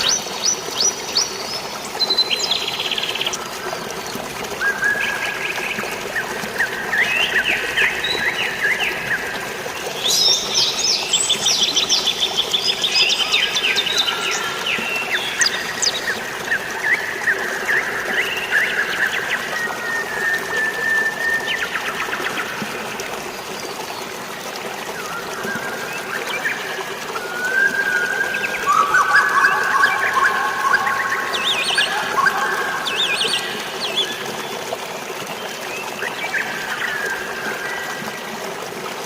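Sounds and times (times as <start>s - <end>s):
birds chirping and trilling: 0.0s - 22.6s, 25.0s - 34.4s
running water: 0.0s - 39.0s.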